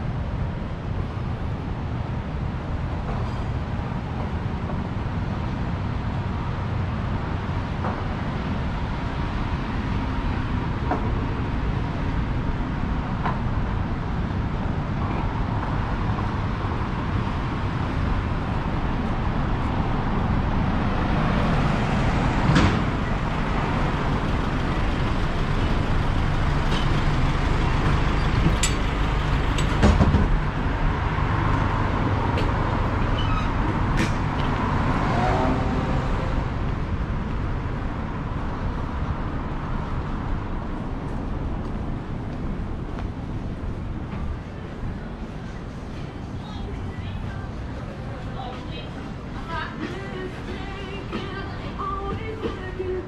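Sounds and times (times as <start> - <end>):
road traffic noise: 0.0 - 53.0.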